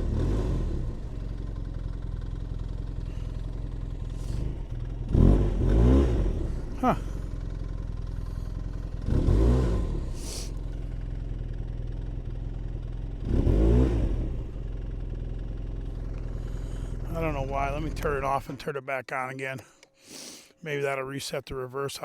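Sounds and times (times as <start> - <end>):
snowmobile engine idling and revving: 0.0 - 18.8, 19.4 - 21.1.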